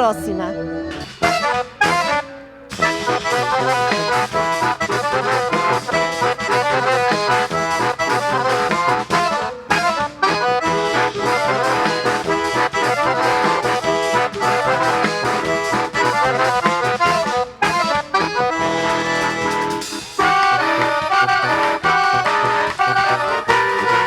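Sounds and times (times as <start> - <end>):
accordion playing quick runs: 0.8 - 24.0.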